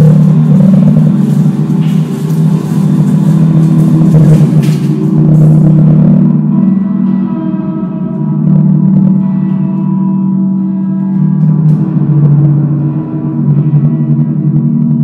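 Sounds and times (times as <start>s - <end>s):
gong-like ringing tones: 0.0s - 15.0s
low drone hum: 0.0s - 15.0s.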